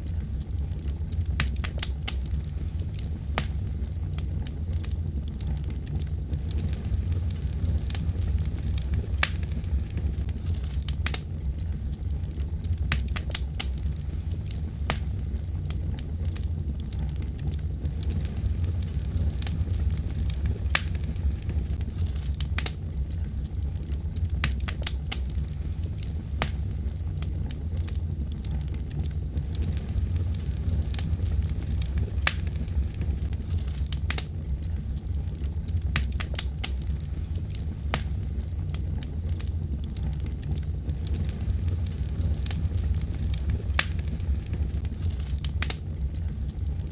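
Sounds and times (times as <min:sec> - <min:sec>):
fire pops and crackles: 0:00.0 - 0:46.9
wood fire burning: 0:00.0 - 0:46.9.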